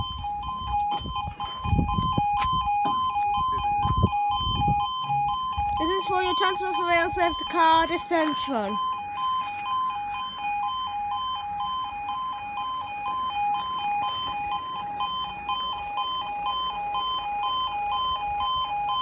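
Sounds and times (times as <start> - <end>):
two-tone crossing alarm: 0.0 - 19.0.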